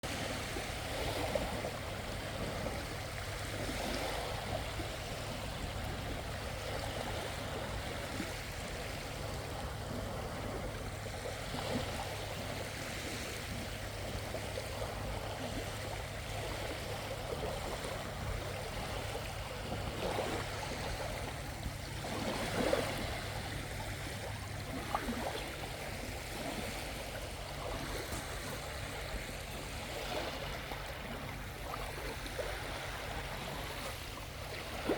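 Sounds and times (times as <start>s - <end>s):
small waves lapping on beach: 0.0s - 34.9s.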